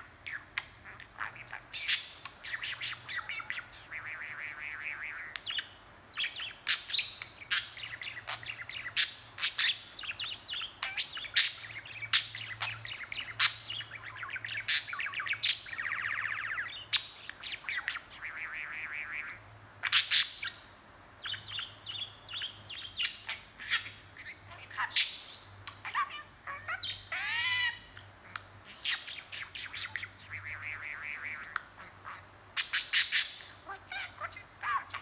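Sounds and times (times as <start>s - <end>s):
budgerigar chattering: 0.3s - 20.6s, 21.3s - 28.0s, 28.7s - 35.0s.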